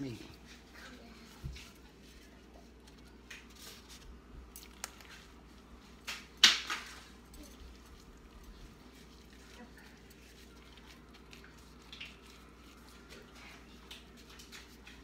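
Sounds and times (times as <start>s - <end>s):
scrape and rustle from bowl: 0.0s - 6.0s, 6.8s - 15.0s
gloved hands patting mixture: 1.4s - 15.0s.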